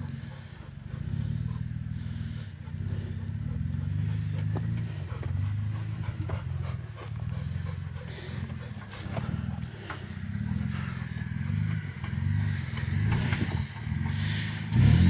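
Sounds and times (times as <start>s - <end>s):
engine running low: 0.0s - 15.0s.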